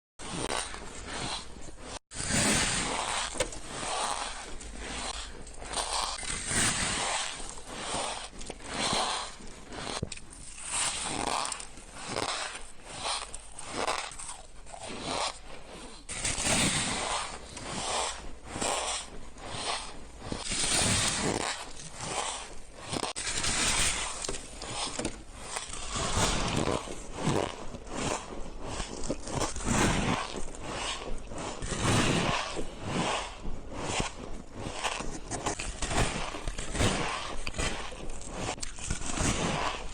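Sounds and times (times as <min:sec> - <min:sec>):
shaved ice crunching: 0:02.2 - 0:39.9.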